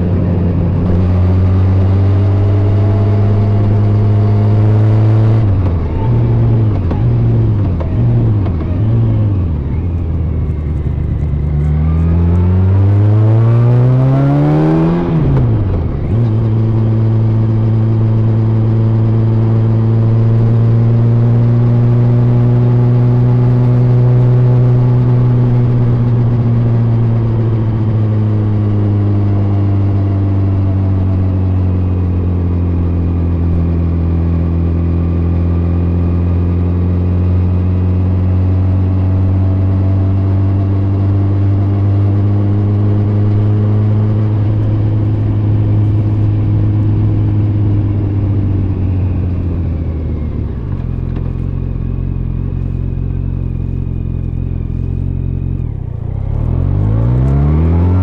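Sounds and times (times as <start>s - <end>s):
muffled motorcycle engine cruising: 0.0s - 58.0s.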